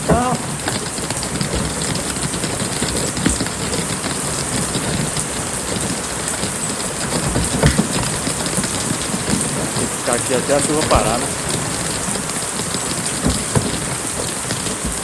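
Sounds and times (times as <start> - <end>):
heavy rain pelting a car: 0.0 - 15.0.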